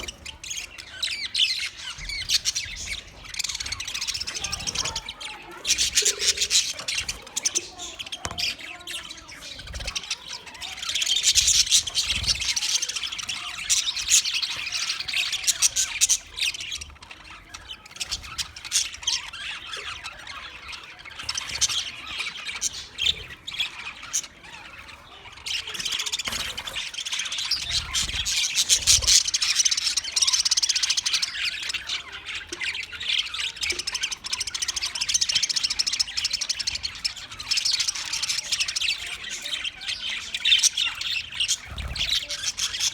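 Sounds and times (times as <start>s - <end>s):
budgie chirping and chattering: 0.0s - 42.9s.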